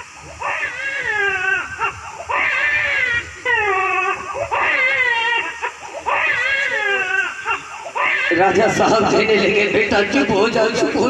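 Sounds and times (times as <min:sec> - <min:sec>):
man imitating baby crying: 0:00.4 - 0:09.5.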